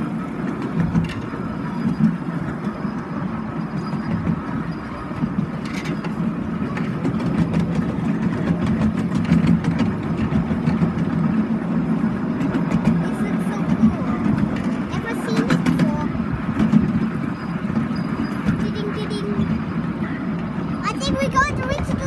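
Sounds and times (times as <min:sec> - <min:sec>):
miniature train rumbling on rails: 0:00.0 - 0:22.0
rattling and clicking of train: 0:00.0 - 0:22.0.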